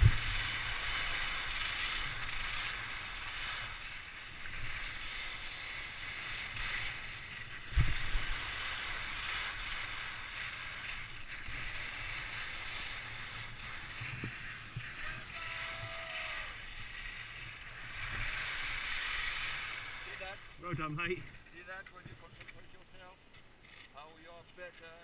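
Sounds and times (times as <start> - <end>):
wind rumbling on microphone: 0.0 - 22.5
skis scraping over snow: 0.0 - 23.2.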